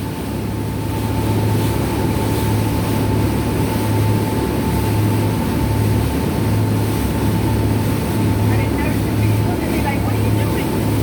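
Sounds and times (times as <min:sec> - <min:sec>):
boat engines droning: 0:00.0 - 0:11.0
constant rushing noise: 0:00.0 - 0:11.0.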